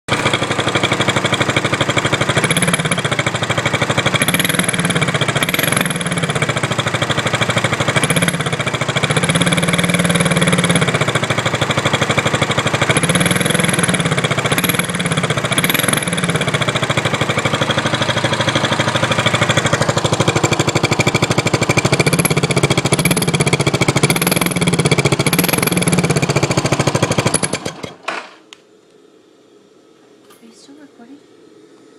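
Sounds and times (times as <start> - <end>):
engine revving: 0.1 - 28.1.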